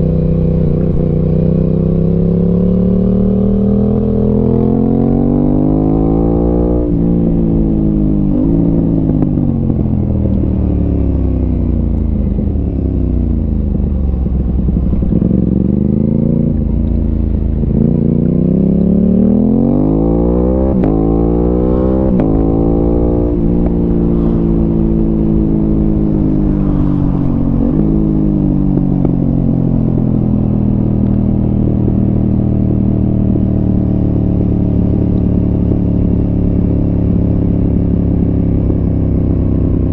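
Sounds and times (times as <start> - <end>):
motorcycle engine revving and shifting: 0.0 - 39.9
wind and road noise: 0.0 - 39.9.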